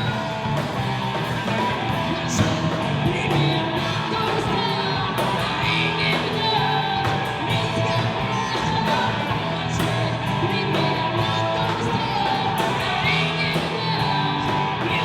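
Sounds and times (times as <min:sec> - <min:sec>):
guitar: 0:00.0 - 0:15.0
live band playing rock: 0:00.0 - 0:15.0
person singing: 0:00.0 - 0:15.0.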